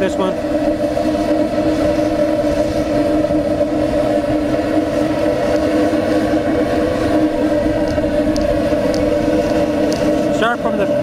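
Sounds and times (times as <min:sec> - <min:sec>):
pipe heater burner droning: 0:00.0 - 0:11.0.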